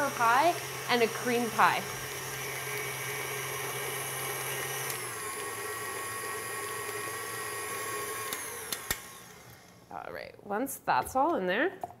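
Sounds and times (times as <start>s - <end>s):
stand mixer running: 0.0s - 9.8s.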